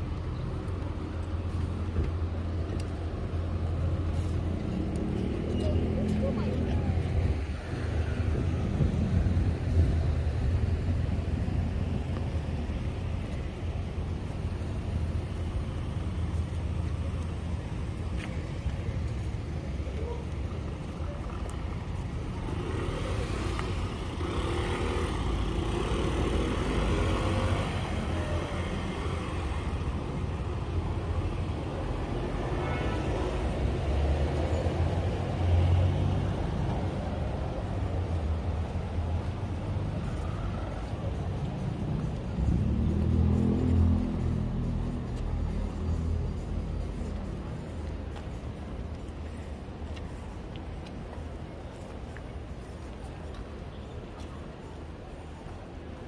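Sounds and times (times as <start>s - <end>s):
low traffic rumble: 0.0s - 56.0s
people's voices passing: 0.0s - 56.0s.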